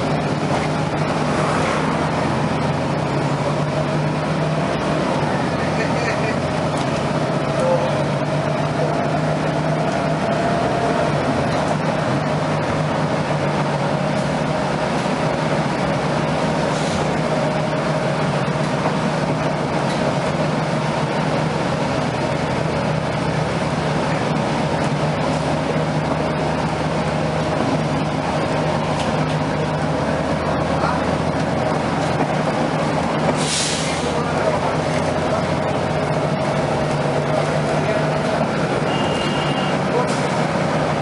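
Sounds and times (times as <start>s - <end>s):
bus engine hum: 0.0s - 41.0s.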